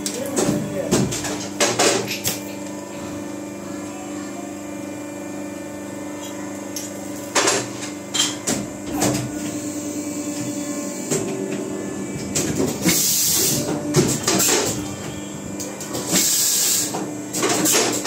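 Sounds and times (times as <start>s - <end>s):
machine mechanical hum: 0.0s - 18.0s.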